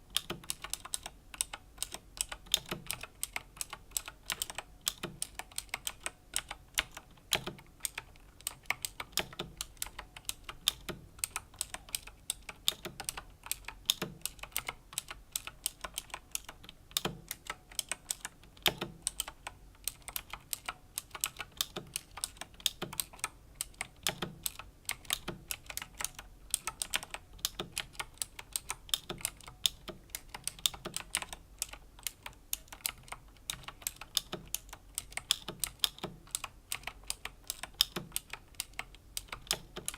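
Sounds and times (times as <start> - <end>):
mechanical keyboard clicking: 0.0 - 39.9.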